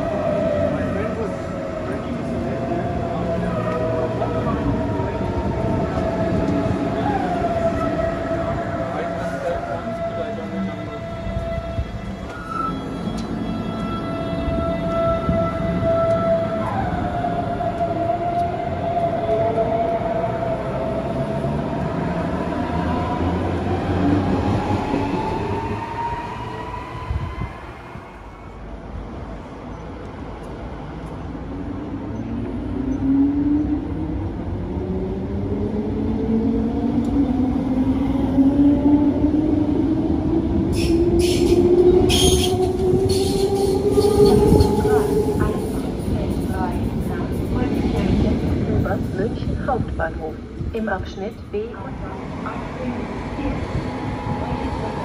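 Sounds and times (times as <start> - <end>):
rumbling rail noise: 0.0 - 55.0.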